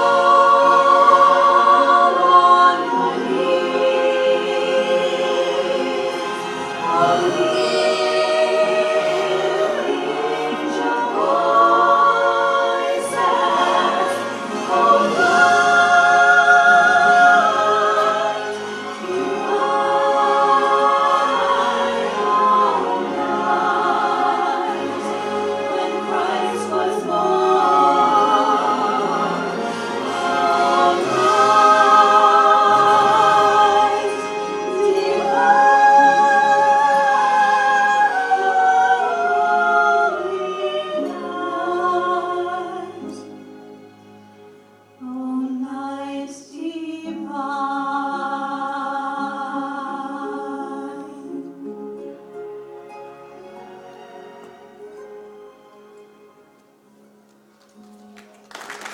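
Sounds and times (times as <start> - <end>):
choir singing held notes: 0.0 - 52.1.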